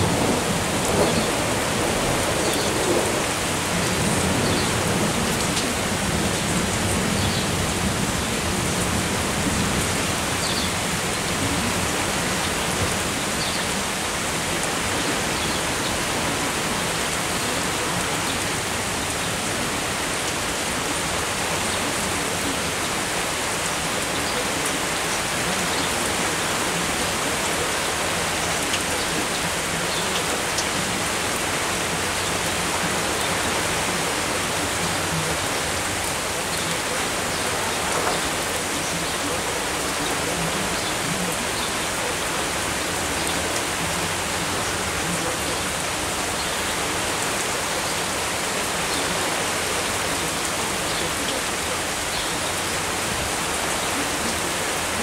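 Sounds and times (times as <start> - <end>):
raindrops tapping close by: 0.0 - 55.0
steady downpour of rain: 0.0 - 55.0.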